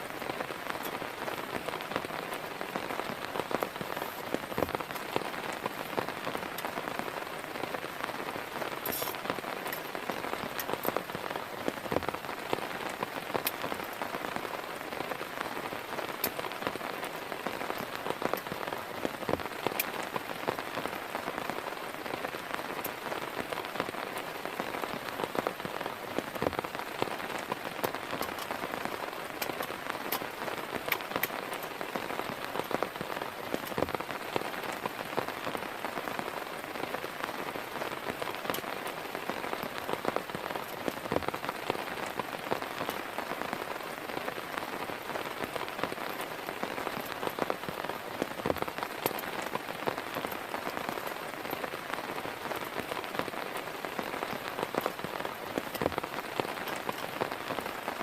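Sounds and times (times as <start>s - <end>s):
heavy rain falling: 0.0s - 58.0s
raindrops hitting a surface: 0.0s - 58.0s.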